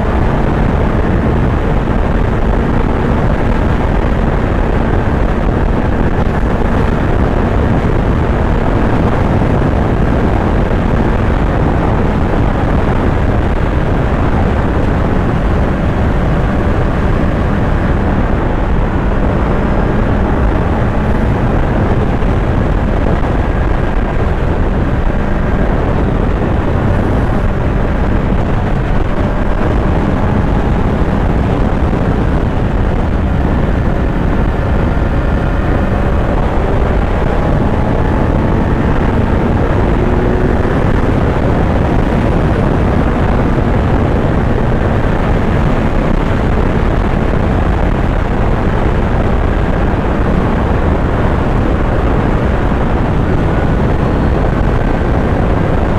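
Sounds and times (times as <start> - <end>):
motorcycle engine running: 0.0 - 55.9
wind noise: 0.0 - 55.9.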